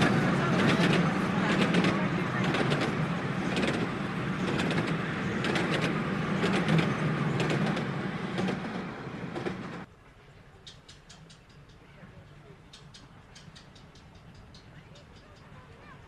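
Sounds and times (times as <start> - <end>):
train wheel clicks: 0.0 - 9.9, 10.6 - 11.9, 12.6 - 16.0
miniature steam train rumbling: 0.0 - 16.0.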